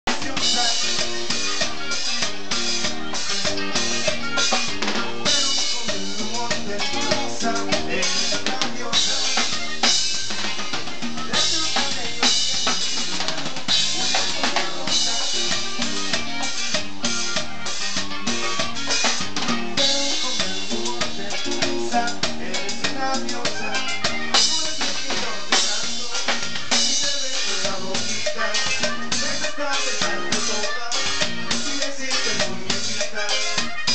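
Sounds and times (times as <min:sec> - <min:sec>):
drum kit and congas: 0:00.0 - 0:33.9
accordion: 0:00.1 - 0:33.9.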